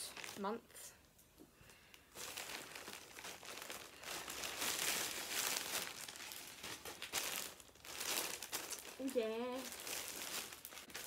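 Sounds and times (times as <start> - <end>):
plastic bag crinkling: 0.0 - 0.6, 1.7 - 11.0.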